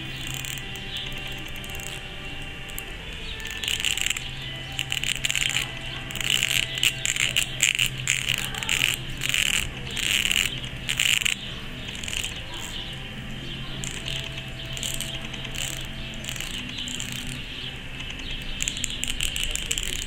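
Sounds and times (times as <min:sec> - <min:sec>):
fingernails tapping and clicking: 0:00.0 - 0:20.0.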